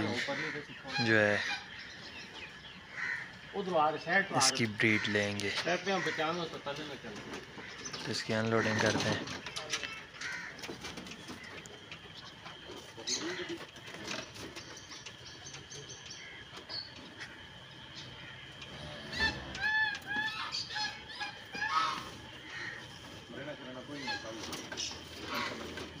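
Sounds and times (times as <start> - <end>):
farmyard birds calling: 0.0 - 26.0.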